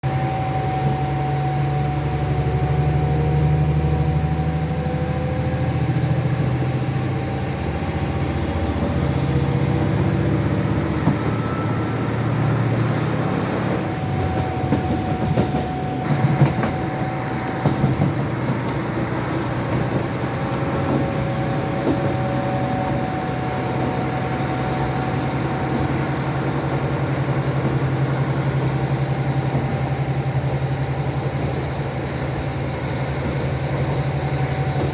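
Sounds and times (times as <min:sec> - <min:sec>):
diesel railcar engine droning: 0:00.0 - 0:34.9.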